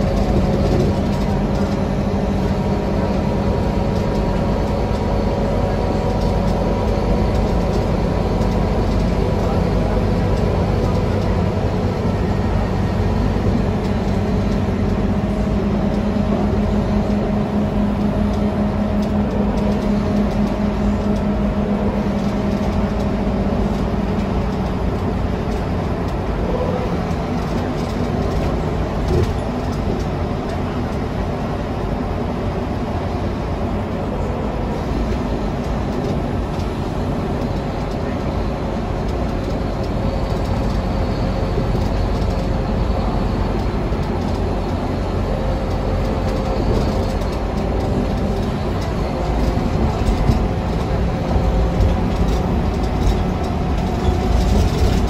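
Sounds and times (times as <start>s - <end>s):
bus diesel engine running: 0.0s - 55.0s
road rumble: 0.0s - 55.0s.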